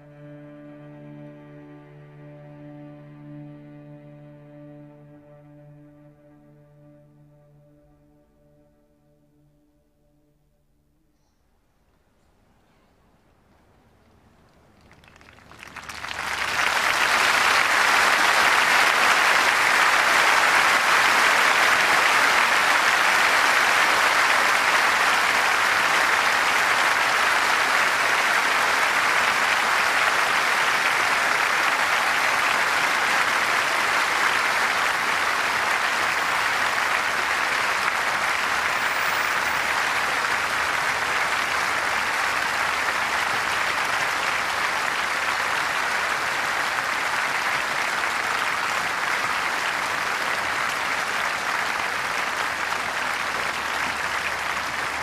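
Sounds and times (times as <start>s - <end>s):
crowd applauding: 0.0s - 5.8s, 14.2s - 55.0s.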